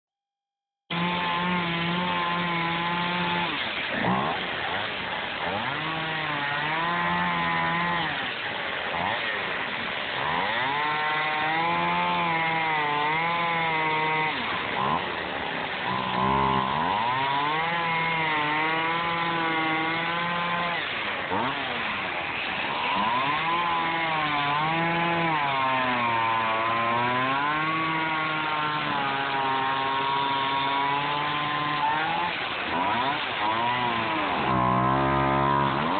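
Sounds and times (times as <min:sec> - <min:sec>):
chainsaw cutting foam: 0:00.9 - 0:35.9.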